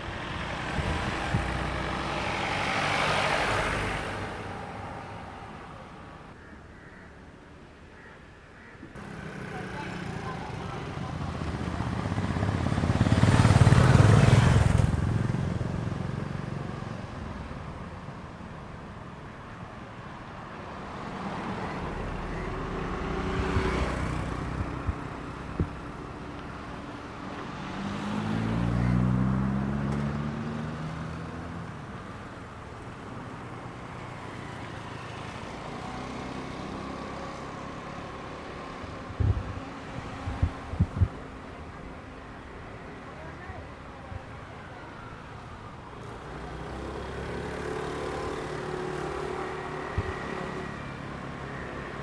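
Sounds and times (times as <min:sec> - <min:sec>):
vehicles passing close by: 0:00.0 - 0:52.0.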